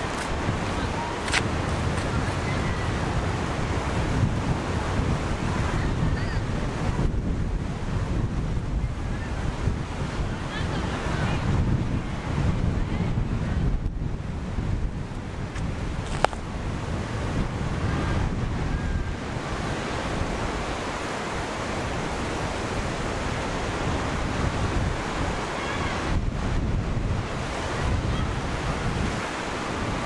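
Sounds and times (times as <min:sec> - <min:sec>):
waves breaking on shore: 0:00.0 - 0:30.0
wind buffeting microphone: 0:00.0 - 0:30.0.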